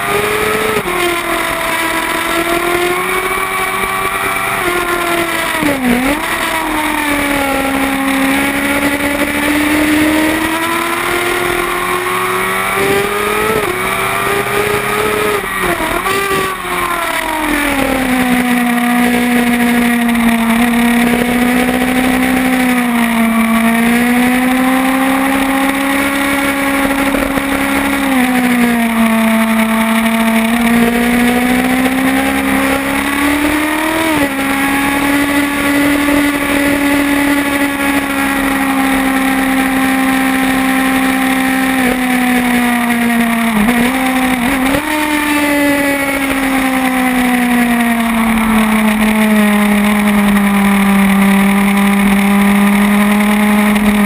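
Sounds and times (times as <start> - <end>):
motorcycle engine at racing speed: 0.0 - 54.0.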